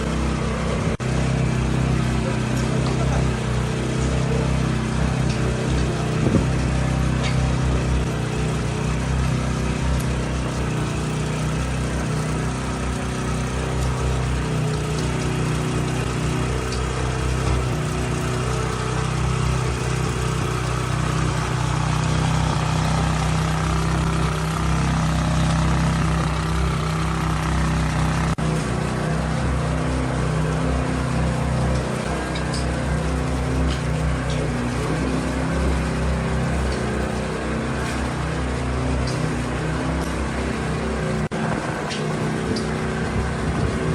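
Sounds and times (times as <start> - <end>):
steady motor drone: 0.0 - 43.9.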